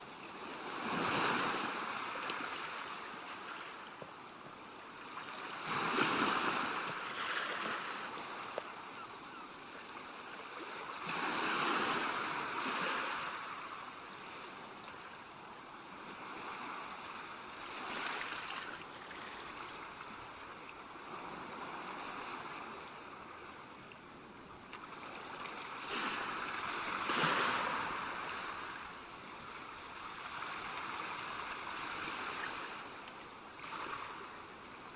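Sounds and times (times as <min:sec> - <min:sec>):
sea waves breaking on beach: 0:00.1 - 0:23.8, 0:24.7 - 0:34.9.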